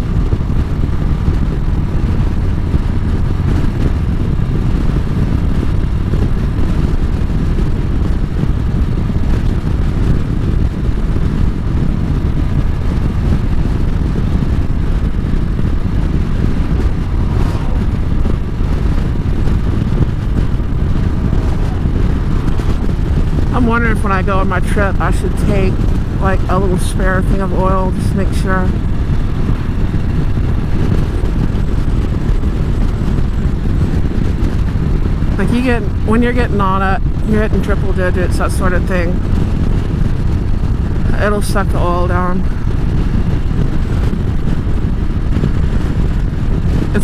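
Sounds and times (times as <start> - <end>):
motorcycle engine drone: 0.0 - 47.0
wind noise: 0.0 - 47.0.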